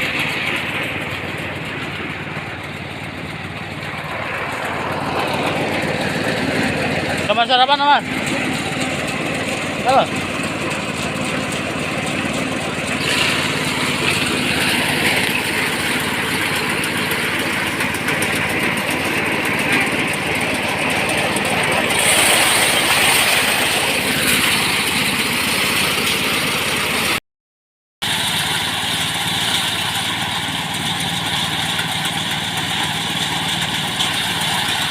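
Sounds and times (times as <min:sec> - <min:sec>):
rice thresher engine running: 0:00.0 - 0:27.2, 0:28.0 - 0:34.9.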